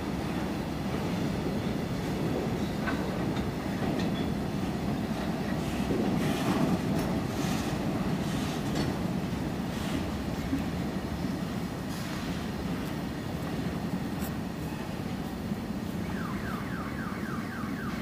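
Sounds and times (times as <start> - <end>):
freight wagons rumbling on rails: 0.0 - 16.4.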